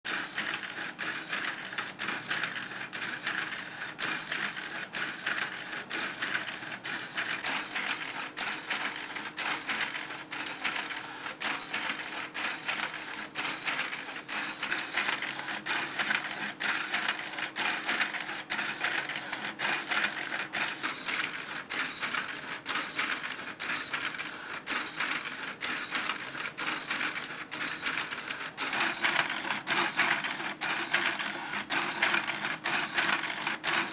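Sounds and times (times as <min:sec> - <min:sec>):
rapid clatter of clicks: 0:00.1 - 0:33.9
small motors driving plastic gears: 0:00.1 - 0:33.9.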